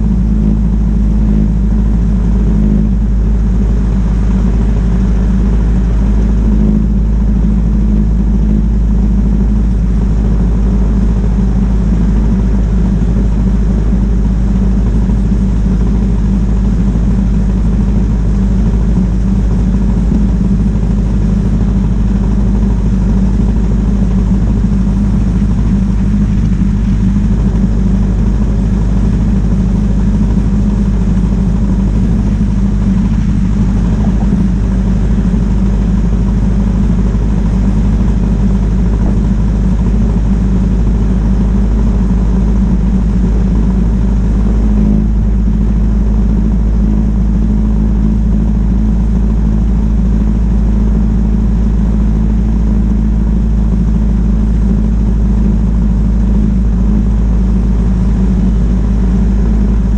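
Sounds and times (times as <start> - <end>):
car engine running steadily: 0.0 - 59.9
wind and road noise: 0.0 - 59.9.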